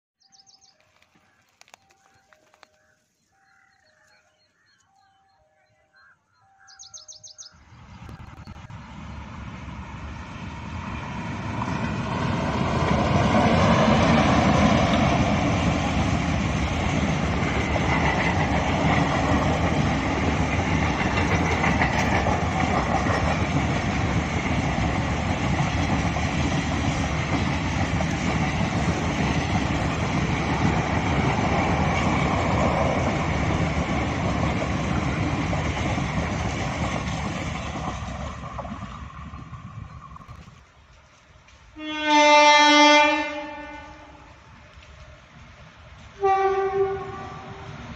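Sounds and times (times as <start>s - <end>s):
train passing on rails: 6.8s - 47.9s.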